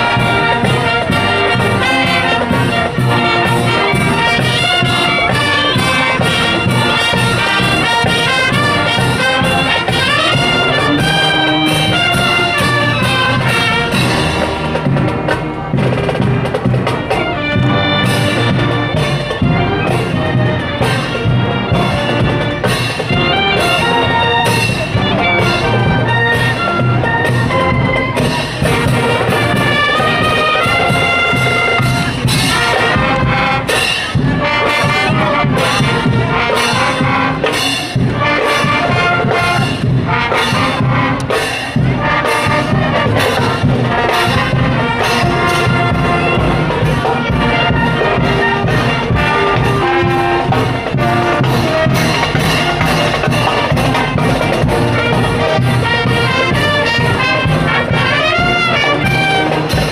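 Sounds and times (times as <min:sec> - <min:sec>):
brass band playing: 0:00.0 - 0:59.9
drum beat: 0:00.0 - 0:59.9.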